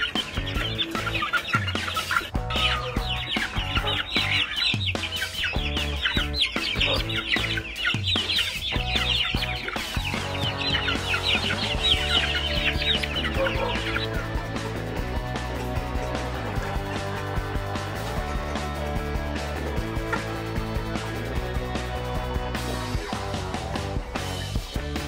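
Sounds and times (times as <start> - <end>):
background music: 0.0 - 25.0
chicks peeping: 0.0 - 25.0.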